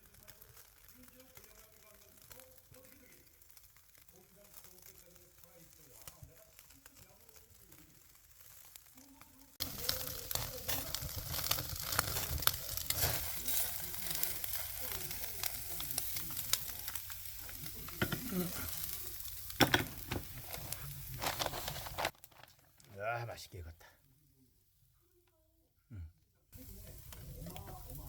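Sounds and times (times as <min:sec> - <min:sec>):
meat sizzling on a grill: 0:00.0 - 0:22.2, 0:26.6 - 0:28.0
fat popping and crackling: 0:00.0 - 0:23.7, 0:26.6 - 0:28.0.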